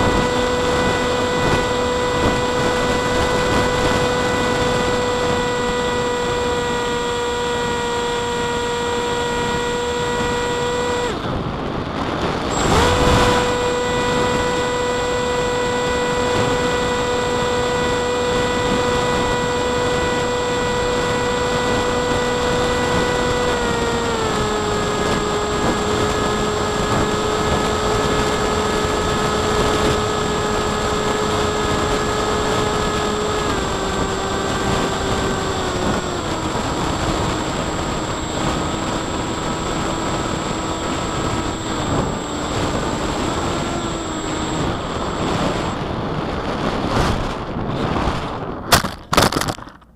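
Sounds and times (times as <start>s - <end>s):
rushing wind noise: 0.0s - 49.7s
propeller whine: 0.0s - 49.9s.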